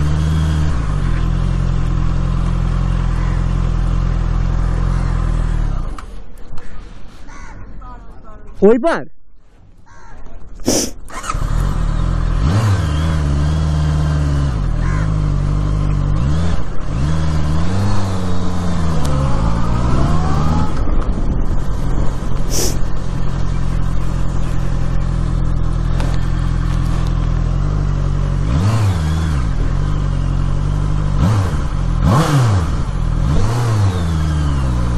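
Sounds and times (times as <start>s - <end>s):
motorcycle engine running: 0.0s - 6.2s, 11.1s - 34.9s.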